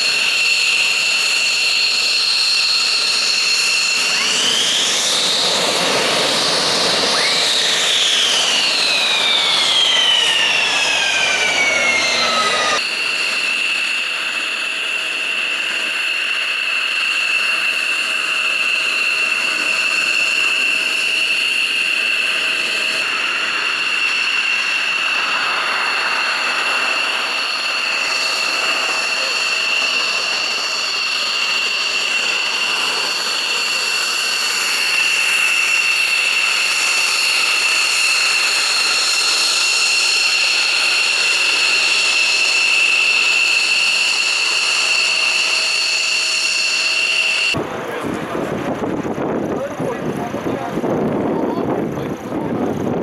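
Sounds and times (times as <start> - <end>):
jet engines idling whine: 0.0 - 53.0
broad rushing noise: 1.6 - 53.0.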